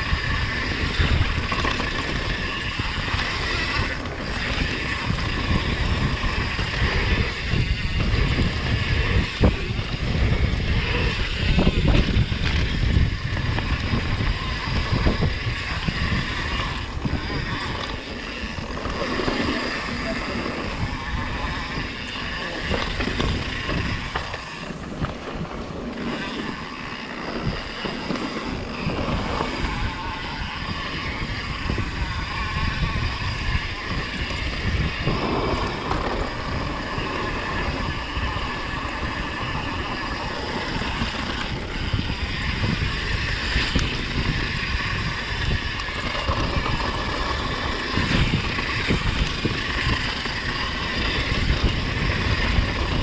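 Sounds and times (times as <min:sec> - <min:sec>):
mountain bike rattling on dirt: 0:00.0 - 0:53.0
wind on microphone: 0:00.0 - 0:53.0.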